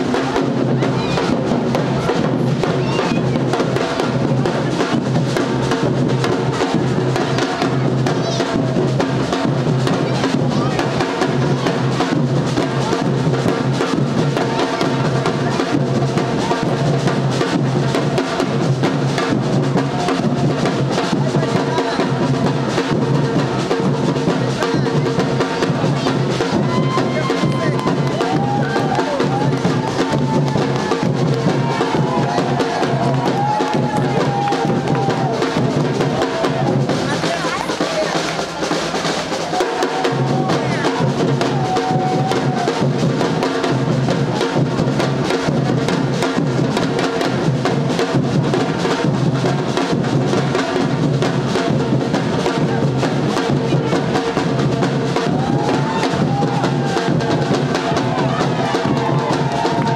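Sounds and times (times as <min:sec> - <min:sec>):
drum ensemble playing: 0:00.0 - 0:59.9.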